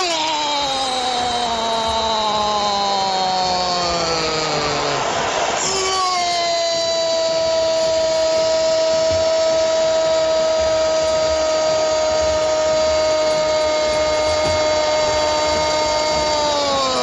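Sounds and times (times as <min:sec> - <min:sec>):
stadium crowd noise: 0:00.0 - 0:17.0.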